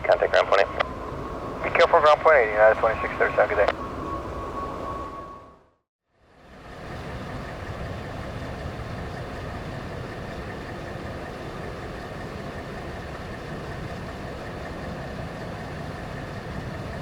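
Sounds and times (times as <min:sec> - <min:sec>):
faint high whine: 0:00.0 - 0:17.0
jet engines idling: 0:00.0 - 0:17.0.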